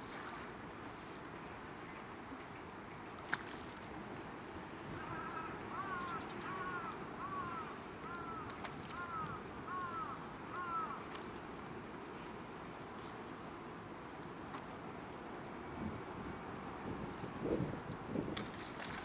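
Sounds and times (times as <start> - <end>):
wind and water hiss: 0.0 - 19.0.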